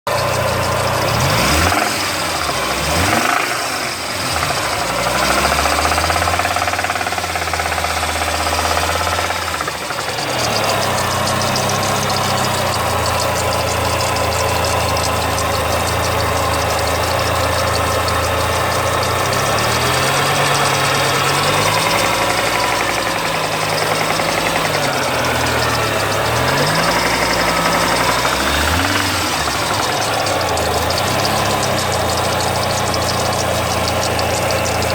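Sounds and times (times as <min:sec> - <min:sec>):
car engine revving with knock: 0:00.1 - 0:34.9.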